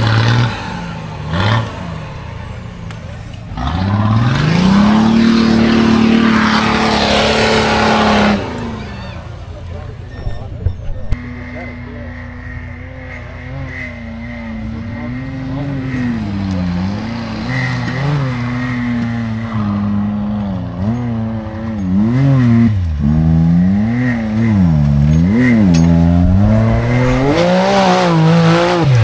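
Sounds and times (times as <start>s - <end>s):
engine revving: 0.0s - 10.0s, 11.1s - 29.0s.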